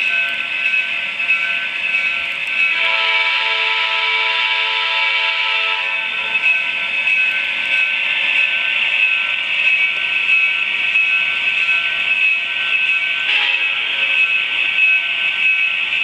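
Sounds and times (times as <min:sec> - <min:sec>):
model locomotive whirring: 0:00.0 - 0:16.0.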